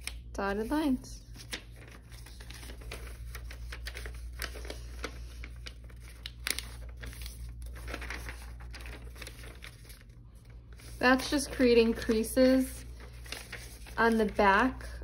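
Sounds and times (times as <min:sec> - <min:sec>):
paper rustling and crinkling: 0:00.0 - 0:15.0
paper scraping: 0:01.3 - 0:14.8.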